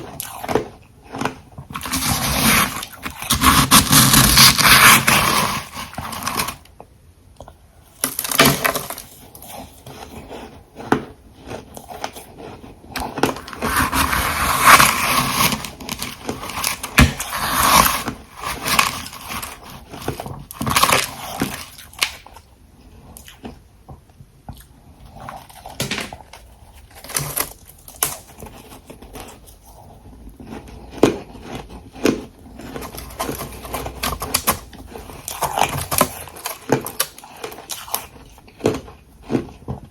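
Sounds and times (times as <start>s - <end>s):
crunching of chewed ice: 0.0s - 6.6s, 7.9s - 23.6s, 24.5s - 39.9s.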